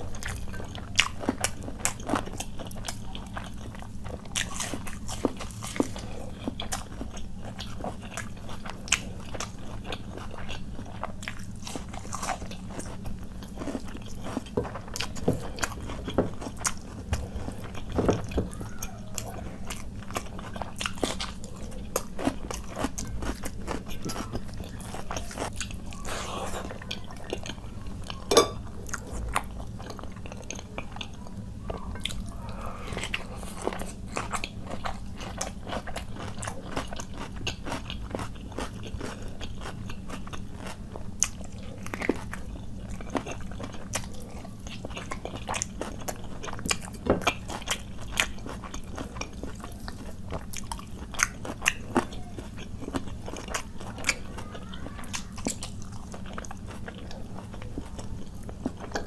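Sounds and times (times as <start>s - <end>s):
low steady hum: 0.0s - 59.0s
wet crunchy chewing: 0.0s - 59.0s.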